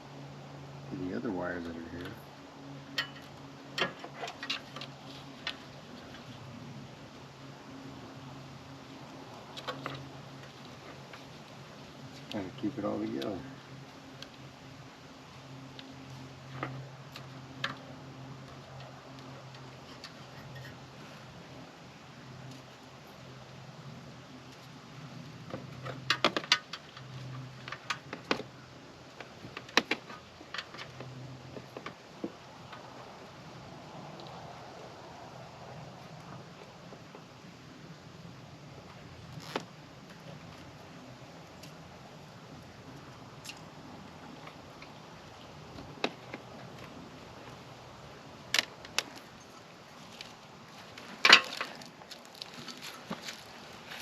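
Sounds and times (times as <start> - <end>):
low steady background noise: 0.0 - 54.0.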